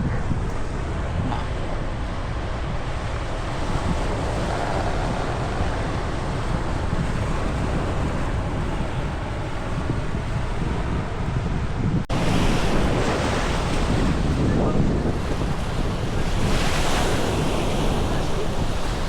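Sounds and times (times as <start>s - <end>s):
surf washing on beach: 0.0s - 19.0s
wind rumbling on microphone: 0.0s - 19.0s.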